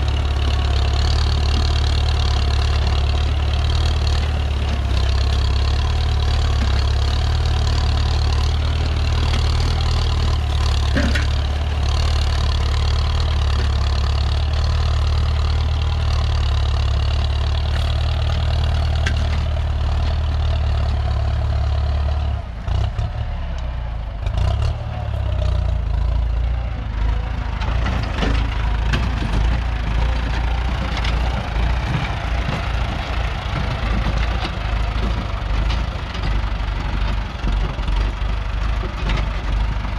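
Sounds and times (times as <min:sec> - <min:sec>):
diesel tractor engine droning: 0:00.0 - 0:39.9.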